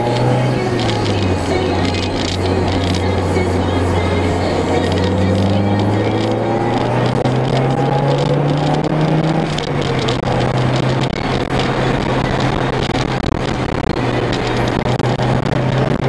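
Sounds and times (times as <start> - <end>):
car engine accelerating: 0.0 - 16.0
road and wind noise: 0.0 - 16.0.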